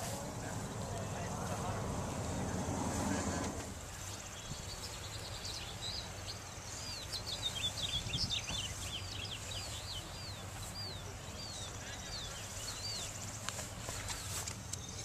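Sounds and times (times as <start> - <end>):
outdoor background hum: 0.0 - 15.0
small birds chirping: 0.0 - 15.0.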